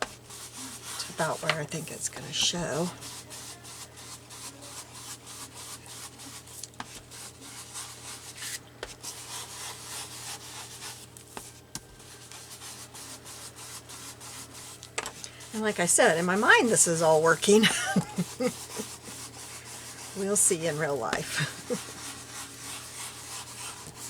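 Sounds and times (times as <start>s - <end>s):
ink applicator scratching paper: 0.0s - 24.0s.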